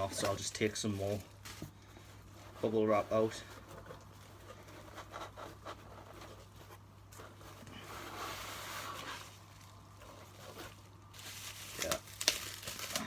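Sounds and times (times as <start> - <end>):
bubble wrap rustling: 0.0 - 13.0.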